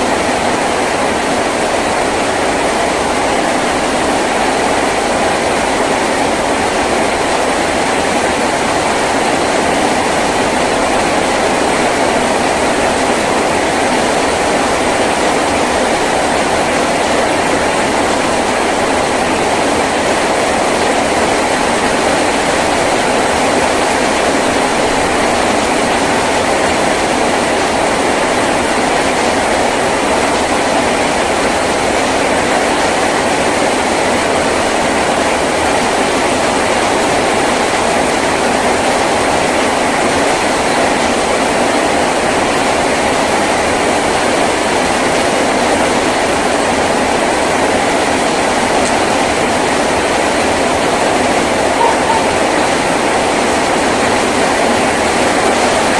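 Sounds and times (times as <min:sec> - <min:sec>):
heavy rain on a tin roof: 0:00.0 - 0:55.9.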